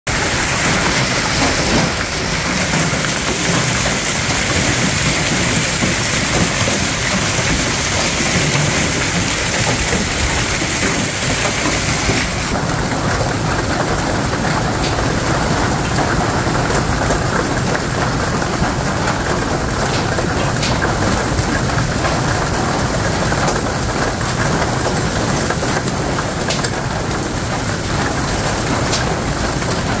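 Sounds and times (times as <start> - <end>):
hail and heavy rain pelting: 0.1 - 30.0
hailstones clicking on hard surfaces: 0.1 - 30.0.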